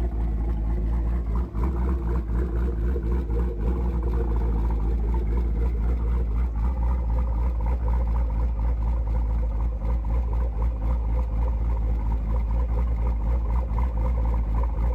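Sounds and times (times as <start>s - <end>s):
engine idling with deep pulse: 0.0s - 14.9s.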